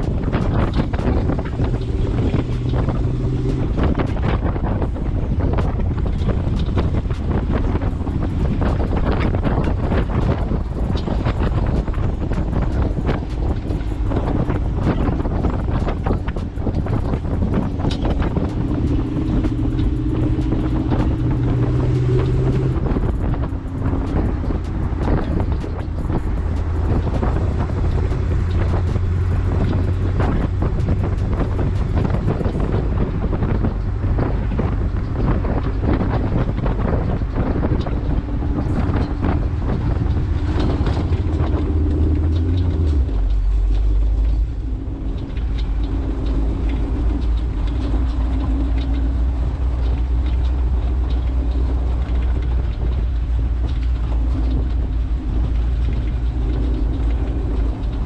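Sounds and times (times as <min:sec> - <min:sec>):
off-road vehicle engine: 0:00.0 - 0:58.0
wind on microphone: 0:00.0 - 0:58.0.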